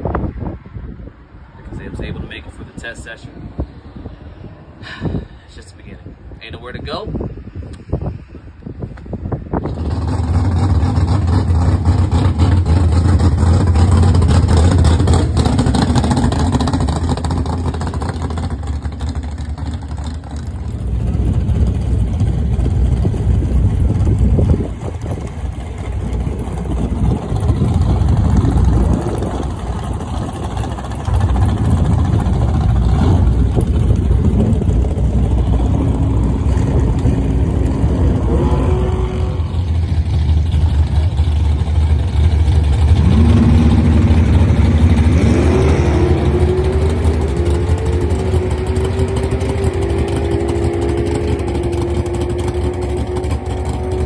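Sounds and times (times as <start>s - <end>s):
race car engine running: 9.6s - 54.0s.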